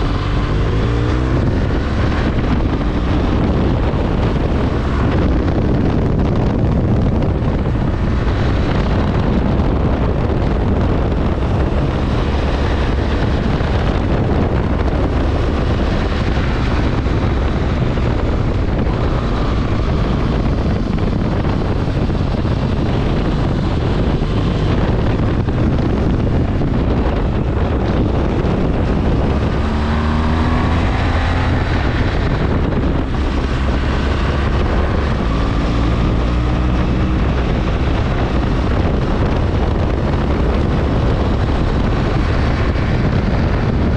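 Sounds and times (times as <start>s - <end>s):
motorcycle engine running: 0.0s - 43.9s
wind noise on microphone: 0.0s - 43.9s.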